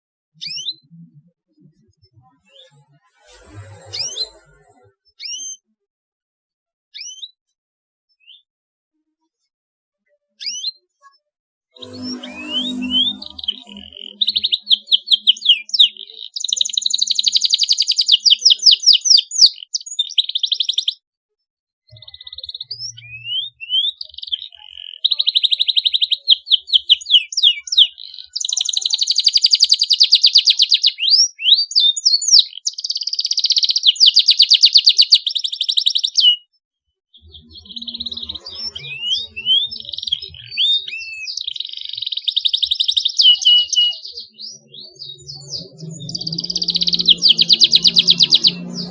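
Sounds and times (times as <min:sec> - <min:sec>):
canary singing trills: 0:00.4 - 0:05.7, 0:11.8 - 0:21.0, 0:21.9 - 0:36.5, 0:37.1 - 0:48.9.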